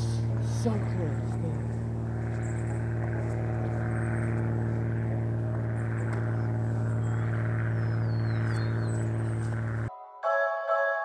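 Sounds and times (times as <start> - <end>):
steady engine drone: 0.0 - 9.9.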